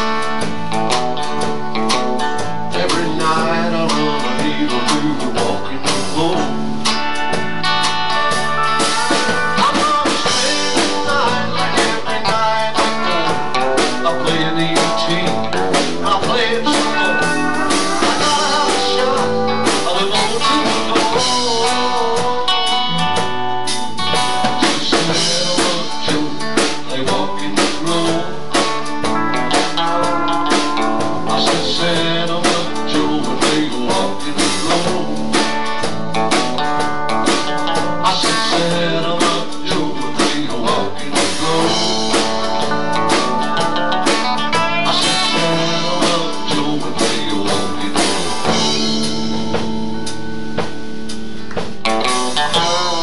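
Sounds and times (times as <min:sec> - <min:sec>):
drum kit beat: 0:00.0 - 0:53.0
electric and acoustic guitars: 0:00.0 - 0:53.0.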